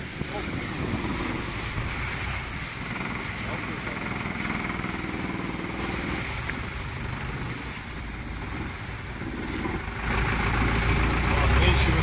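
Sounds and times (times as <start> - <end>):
boat engine running: 0.0 - 12.0
water rushing along hull: 0.0 - 12.0.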